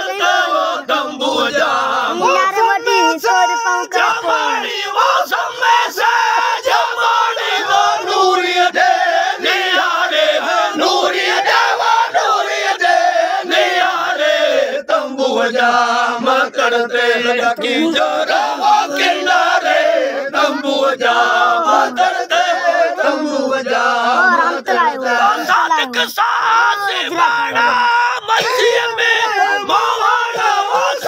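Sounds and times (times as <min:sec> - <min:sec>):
group of people singing: 0:00.0 - 0:31.0.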